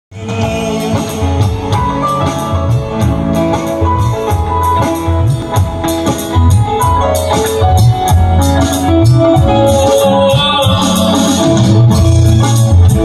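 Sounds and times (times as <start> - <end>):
drum kit: 0.1 - 13.0
electric guitar: 0.1 - 13.0
heavy bass line: 0.1 - 13.0
keyboard: 0.1 - 13.0.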